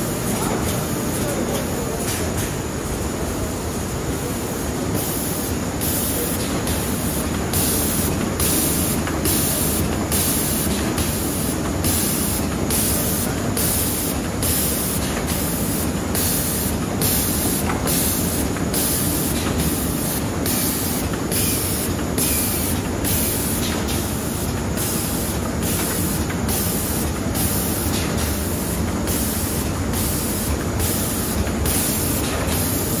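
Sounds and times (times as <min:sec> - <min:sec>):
laminating machine running: 0:00.0 - 0:33.0.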